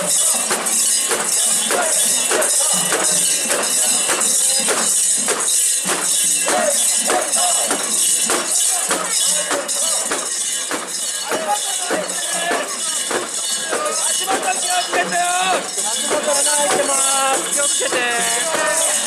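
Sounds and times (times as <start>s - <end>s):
metal fittings jangling: 0.0s - 19.0s
people calling: 0.0s - 19.0s.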